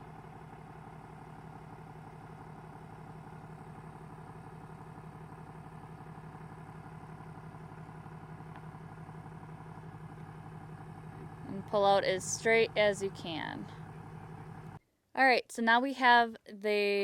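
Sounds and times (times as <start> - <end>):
pickup truck engine idling: 0.0 - 14.8.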